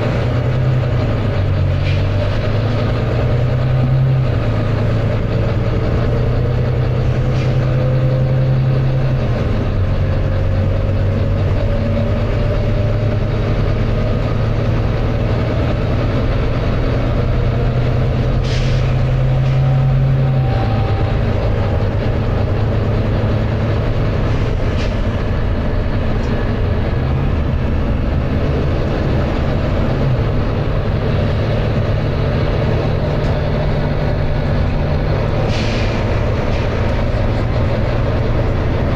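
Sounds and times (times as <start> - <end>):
bus diesel engine under load: 0.0 - 38.9.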